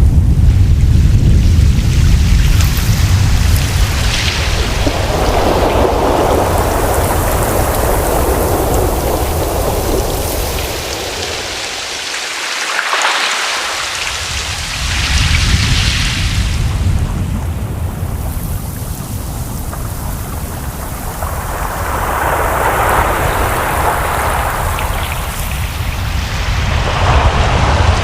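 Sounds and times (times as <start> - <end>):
low rumble: 0.0 - 11.5, 14.3 - 28.0
hissing wash of water: 0.0 - 28.0
ocean waves breaking: 2.4 - 28.0.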